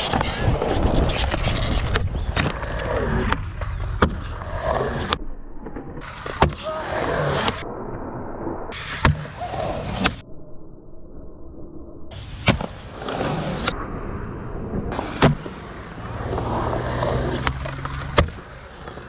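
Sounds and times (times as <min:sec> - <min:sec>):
skateboard wheels rolling on concrete: 0:00.0 - 0:07.6, 0:08.7 - 0:10.2, 0:12.1 - 0:19.0.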